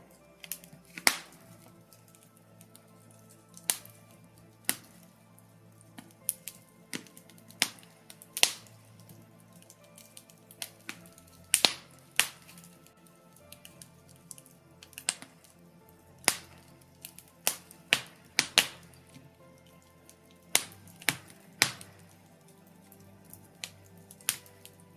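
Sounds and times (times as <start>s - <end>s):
logs crackling in fireplace: 0.0s - 24.9s.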